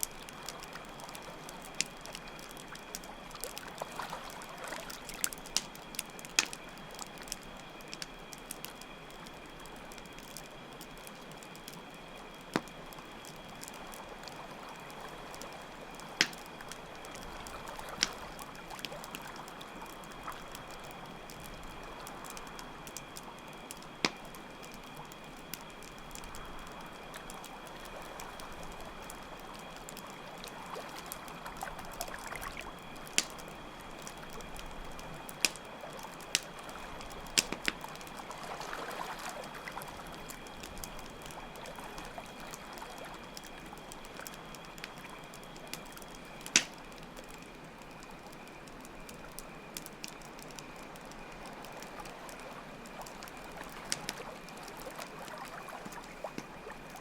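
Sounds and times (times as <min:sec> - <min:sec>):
campfire crackling: 0:00.0 - 0:57.0
crickets chirring: 0:00.0 - 0:57.0.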